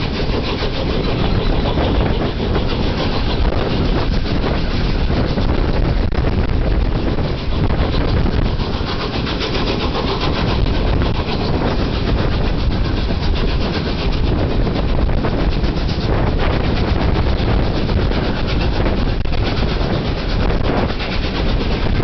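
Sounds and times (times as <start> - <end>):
steam locomotive exhaust beat: 0.0 - 22.0
train wheels rumbling on rails: 0.0 - 22.0
wind noise on microphone: 0.0 - 22.0.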